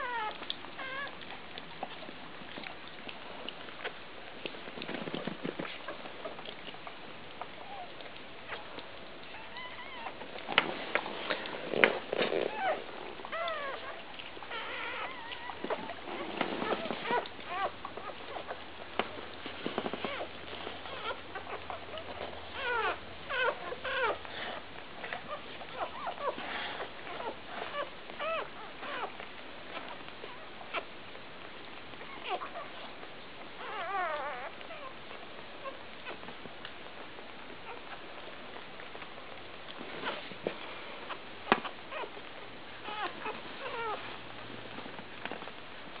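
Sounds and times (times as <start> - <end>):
puppies squeaking and whimpering: 0.0 - 4.0, 4.7 - 30.9, 31.7 - 36.3, 37.6 - 39.4, 40.0 - 44.2.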